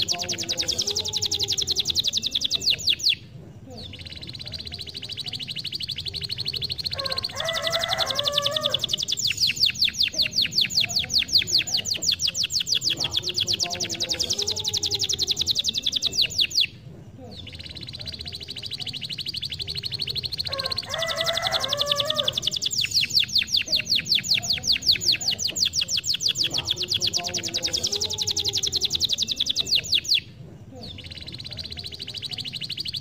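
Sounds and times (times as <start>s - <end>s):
canary singing trills: 0.0s - 33.0s.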